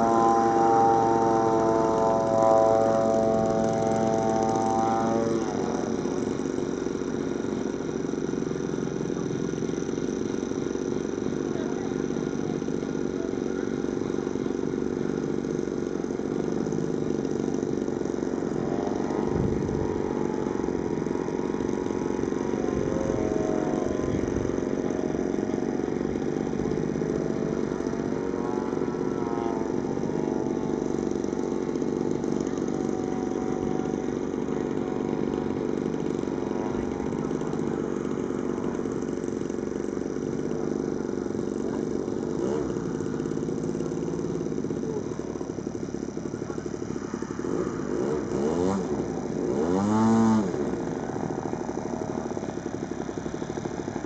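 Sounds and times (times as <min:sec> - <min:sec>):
model airplane engine droning: 0:00.0 - 0:54.0.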